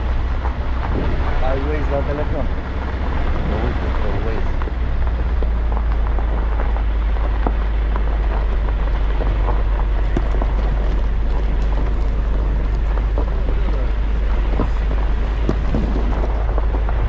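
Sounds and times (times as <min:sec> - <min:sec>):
car running and tyre noise: 0:00.0 - 0:17.0
loose stones ticking: 0:00.0 - 0:17.0
wind rumble on microphone: 0:00.0 - 0:17.0.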